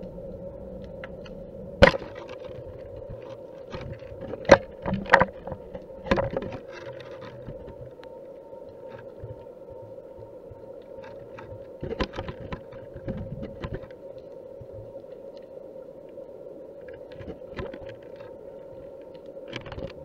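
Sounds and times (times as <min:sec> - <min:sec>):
faint ticks: 0:00.0 - 0:01.6, 0:02.2 - 0:20.0
steady hum: 0:00.0 - 0:20.0.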